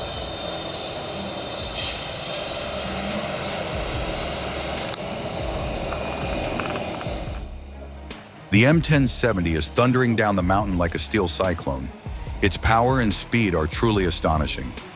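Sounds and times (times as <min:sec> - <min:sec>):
high steady whine: 0:00.0 - 0:14.9
truck engine drone: 0:00.0 - 0:14.9.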